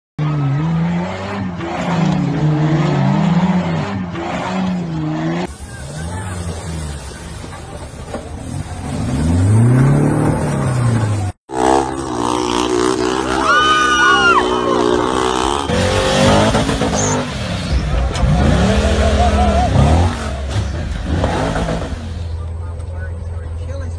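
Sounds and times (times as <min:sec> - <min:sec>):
off-road engines revving: 0:00.2 - 0:23.9.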